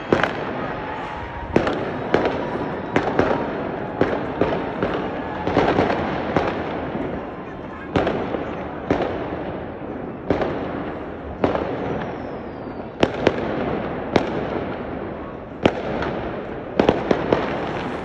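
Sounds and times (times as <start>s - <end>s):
continuous background din: 0.0s - 18.0s
firecracker bangs: 0.0s - 18.0s.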